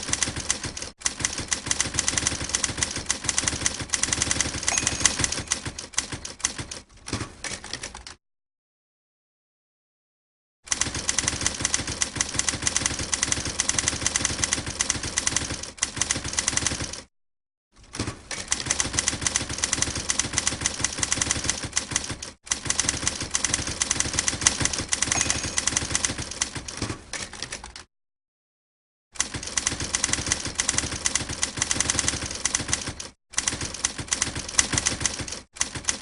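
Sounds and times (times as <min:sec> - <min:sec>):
rapid typewriter typing: 0:00.0 - 0:08.2, 0:10.7 - 0:17.1, 0:18.3 - 0:27.9, 0:29.2 - 0:36.0.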